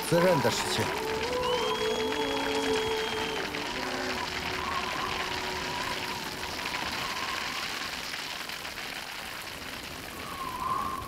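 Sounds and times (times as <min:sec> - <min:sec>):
hailstones falling on grass: 0:00.0 - 0:11.0.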